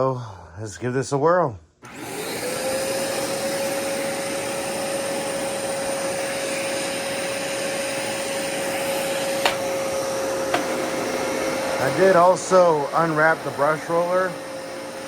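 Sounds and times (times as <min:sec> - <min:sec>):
vacuum cleaner motor whine: 0:01.8 - 0:15.0.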